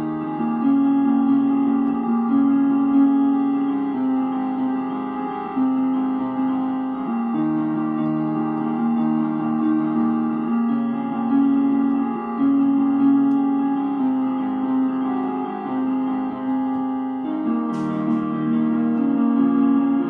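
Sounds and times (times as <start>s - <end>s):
electronic keyboard piano chords: 0.0s - 20.0s.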